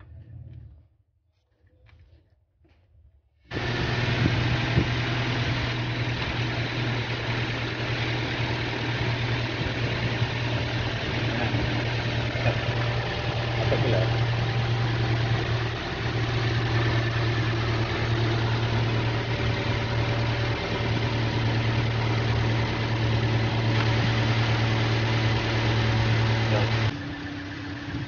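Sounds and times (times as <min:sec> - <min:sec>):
car engine idling: 0:03.5 - 0:28.0.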